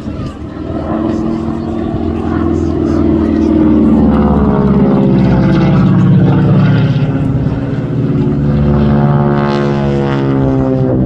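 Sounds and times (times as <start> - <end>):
propeller plane flying overhead: 0.0 - 11.0.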